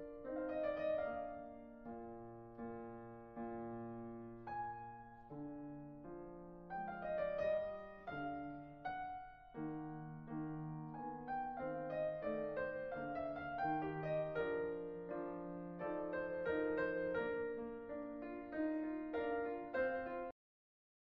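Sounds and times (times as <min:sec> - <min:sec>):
solo piano music: 0:00.0 - 0:20.4.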